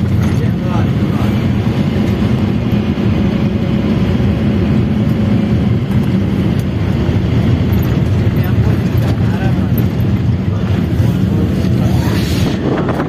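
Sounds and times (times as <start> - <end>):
moving vehicle road noise: 0.0 - 13.0
wind noise: 0.0 - 13.0.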